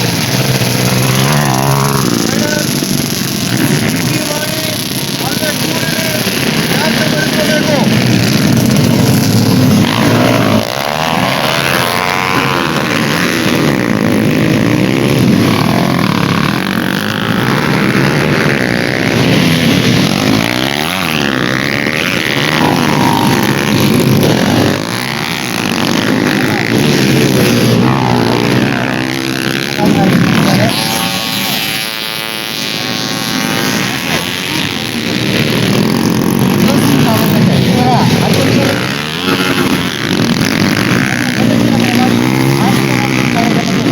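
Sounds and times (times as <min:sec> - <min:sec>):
racing motorcycles revving past: 0:00.0 - 0:43.9.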